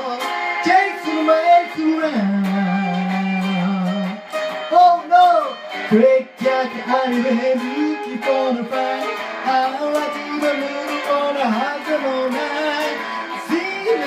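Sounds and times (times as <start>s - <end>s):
electric guitar playing: 0.0s - 14.0s
man singing: 0.0s - 14.0s.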